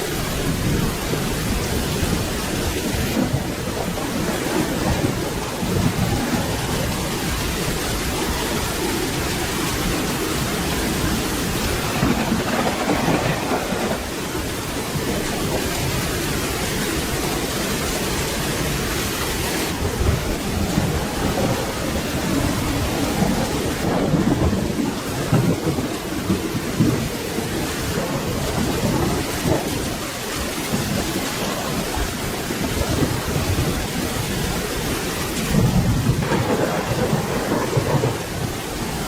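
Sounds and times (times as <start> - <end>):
rolling thunder rumbles: 0.0 - 17.6, 19.7 - 39.0
steady rain: 0.0 - 39.0.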